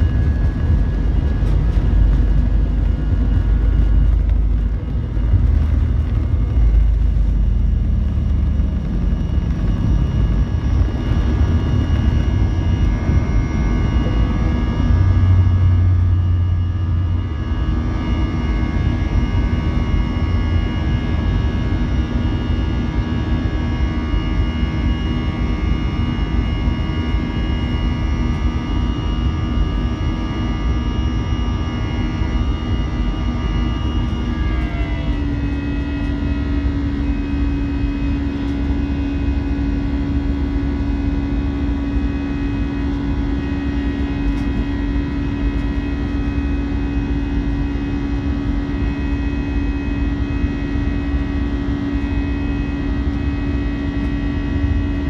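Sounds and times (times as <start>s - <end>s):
high engine whine: 0.0s - 55.0s
jet engines droning: 0.0s - 55.0s.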